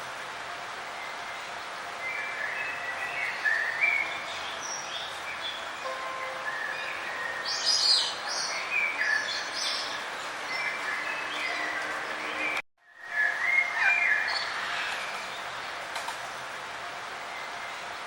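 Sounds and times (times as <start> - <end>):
steady background hiss: 0.0 - 18.0
birds chirping: 0.9 - 15.9.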